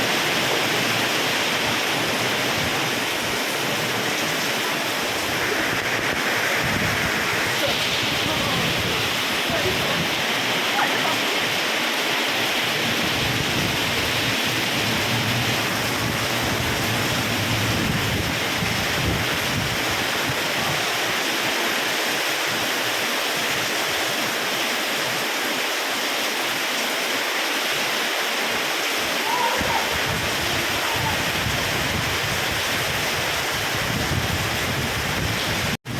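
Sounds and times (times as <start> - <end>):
low rumbling wind gusts: 0.0 - 24.6, 28.4 - 35.9
heavy rain pouring: 0.0 - 35.9.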